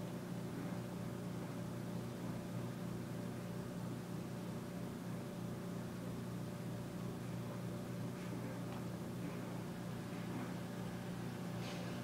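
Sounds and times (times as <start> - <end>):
low electronic hum: 0.0 - 12.0.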